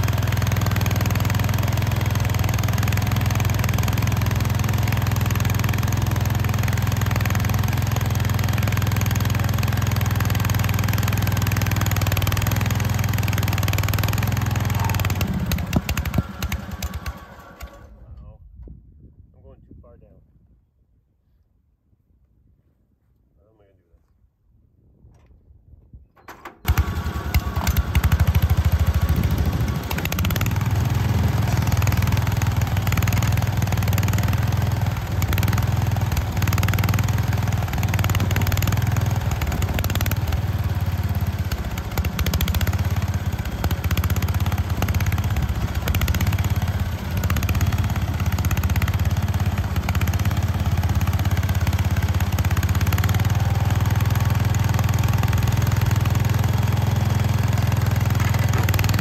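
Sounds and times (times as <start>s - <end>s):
garden tractor engine running: 0.0s - 18.0s, 26.4s - 59.0s
rototiller churning soil: 0.0s - 18.0s, 26.6s - 59.0s.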